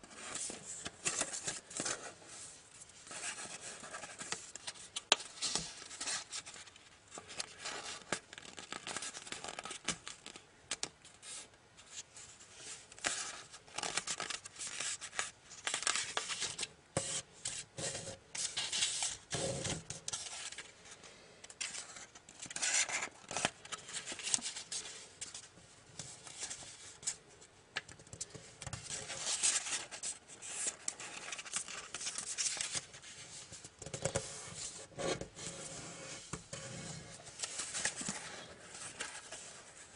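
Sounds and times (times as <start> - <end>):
paper rustling and crinkling: 0.0 - 27.2, 27.8 - 35.5, 36.1 - 39.9.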